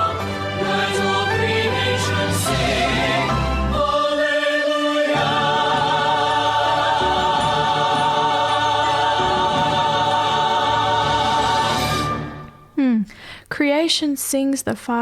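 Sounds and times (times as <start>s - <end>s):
choir singing sacred music: 0.0s - 12.7s.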